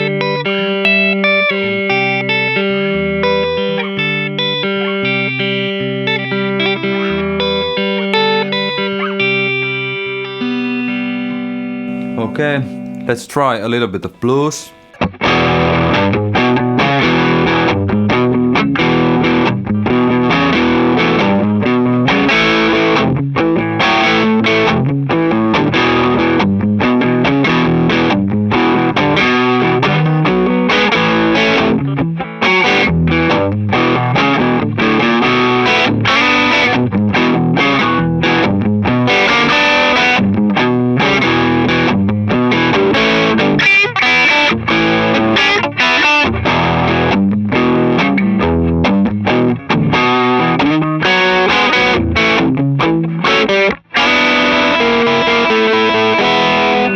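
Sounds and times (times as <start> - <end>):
overdriven electric guitar blues: 0.0 - 13.1, 14.2 - 56.9.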